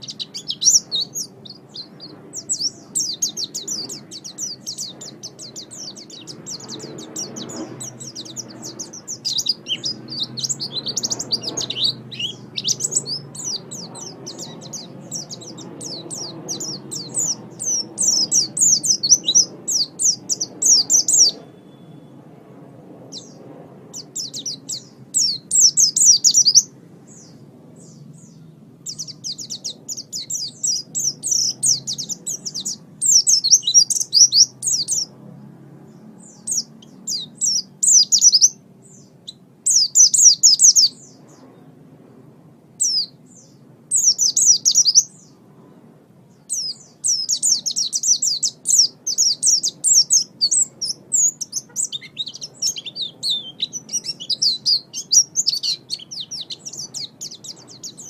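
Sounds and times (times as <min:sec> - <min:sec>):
songbird chattering chirps: 0:00.0 - 0:22.2, 0:23.1 - 0:35.1, 0:35.9 - 0:41.7, 0:42.8 - 0:45.4, 0:46.3 - 0:58.0.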